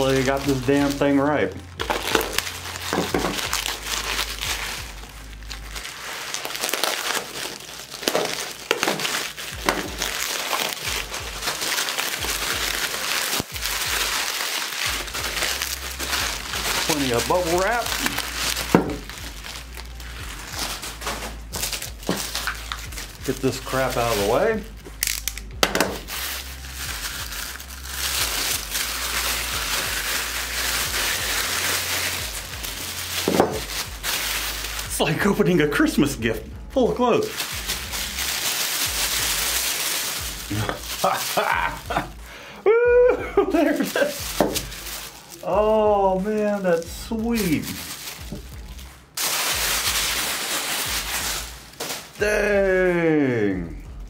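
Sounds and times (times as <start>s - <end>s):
bubble wrap crinkling: 0.0s - 54.0s.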